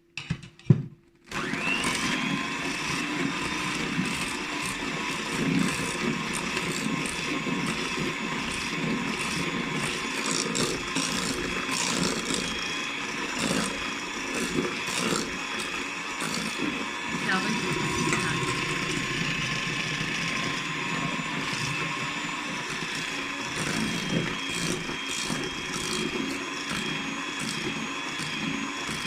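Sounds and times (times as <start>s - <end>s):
electric mixer running: 1.3s - 29.0s
mixer beaters knocking: 1.5s - 29.0s.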